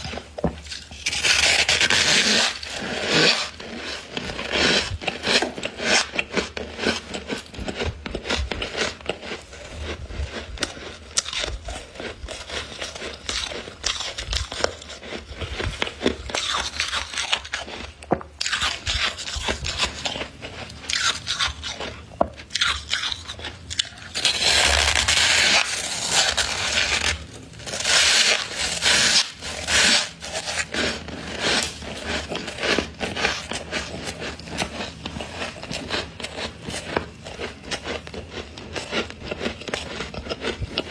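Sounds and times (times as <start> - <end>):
metal spoon scraping freezer frost: 0.0 - 40.9.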